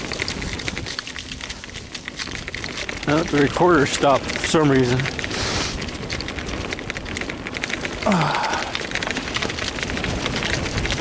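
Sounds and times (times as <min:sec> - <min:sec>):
bicycle rattling over rough ground: 0:00.0 - 0:11.0
steady rushing noise: 0:00.0 - 0:11.0.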